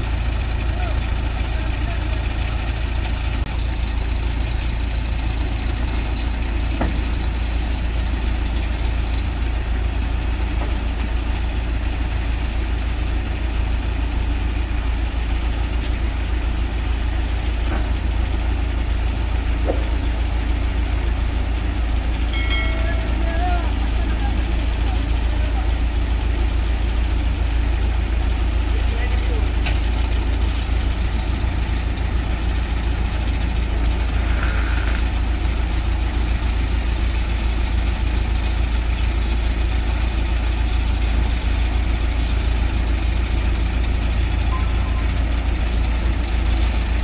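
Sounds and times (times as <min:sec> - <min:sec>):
heavy diesel engines idling: 0:00.0 - 0:47.0.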